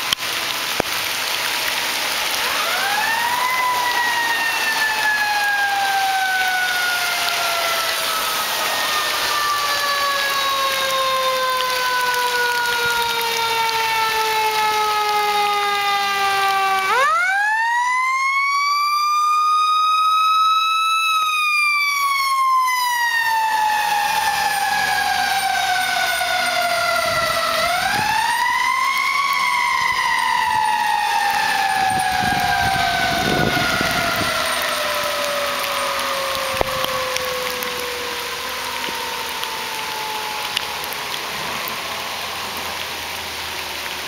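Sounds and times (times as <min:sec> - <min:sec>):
fire engine siren wailing: 0:00.0 - 0:44.0.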